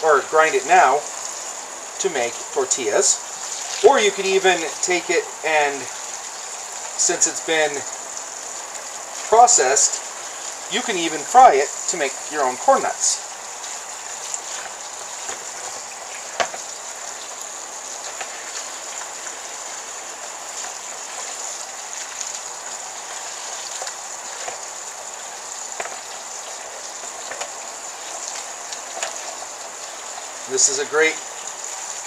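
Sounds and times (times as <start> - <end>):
tap water running into sink: 0.0 - 32.0.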